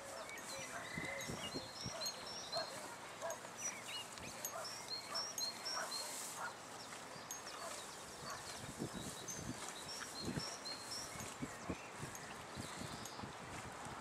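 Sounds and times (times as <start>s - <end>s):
small birds chirping: 0.0s - 13.4s
horses eating hay: 0.0s - 14.0s.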